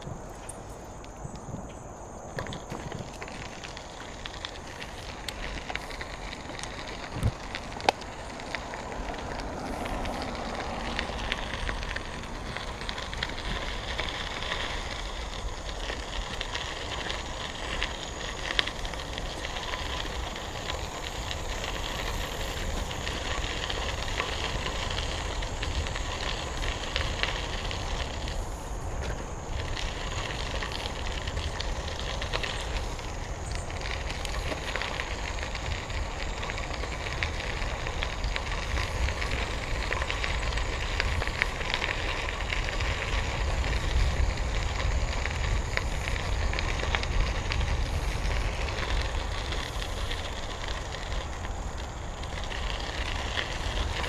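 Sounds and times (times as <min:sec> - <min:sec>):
bicycle tyres on gravel: 0:00.0 - 0:54.0.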